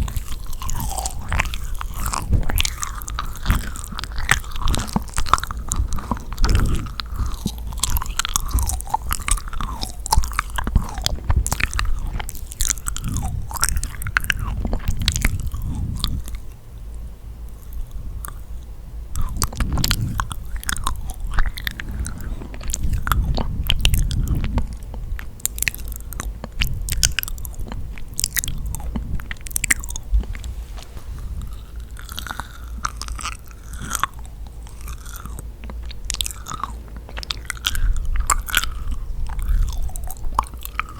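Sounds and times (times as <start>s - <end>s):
wet mouth clicks and smacks: 0.0s - 16.5s, 19.2s - 30.5s, 31.3s - 40.9s
biting and chewing cookie: 0.0s - 40.9s.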